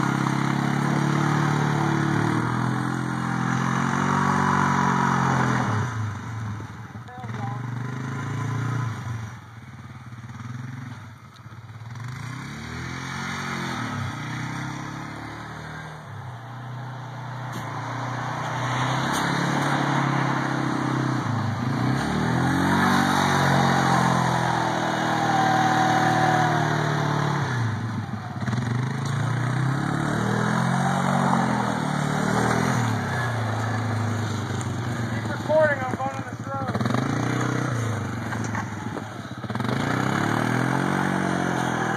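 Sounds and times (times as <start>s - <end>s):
atv engine driving past: 0.0s - 41.9s.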